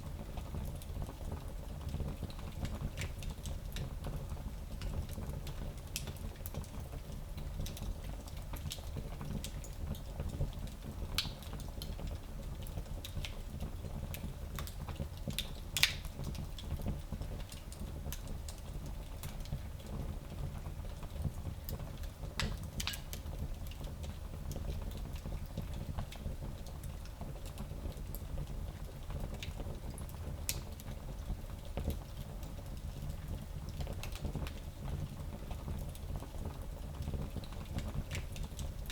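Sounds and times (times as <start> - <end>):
wood fire crackling: 0.1 - 38.9.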